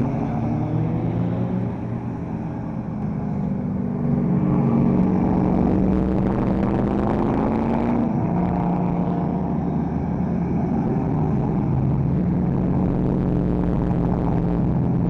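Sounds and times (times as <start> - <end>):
car engines driving slowly past: 0.0 - 15.0.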